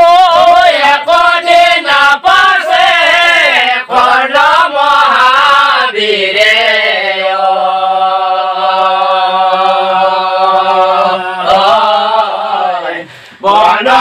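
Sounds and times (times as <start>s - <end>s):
men singing devotional chant: 0.0s - 14.0s.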